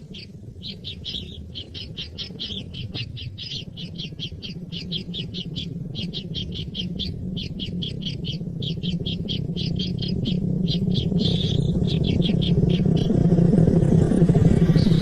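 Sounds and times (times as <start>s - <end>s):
bird chirping rapidly: 0.0s - 13.2s, 14.6s - 15.0s
low rumble: 0.0s - 15.0s.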